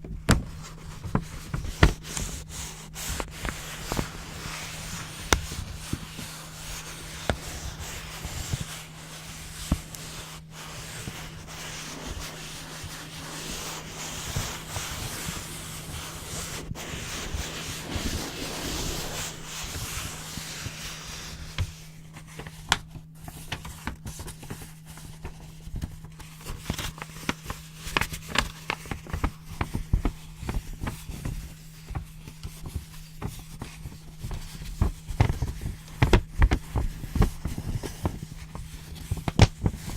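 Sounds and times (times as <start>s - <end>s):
paper rustling: 0.3s - 39.9s.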